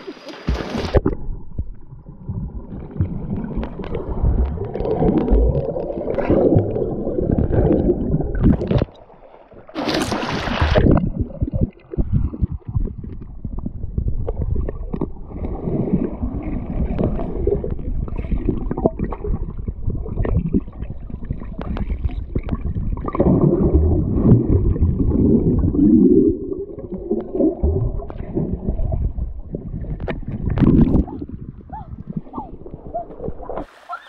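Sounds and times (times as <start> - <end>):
underwater stream gurgling: 0.0 - 34.0.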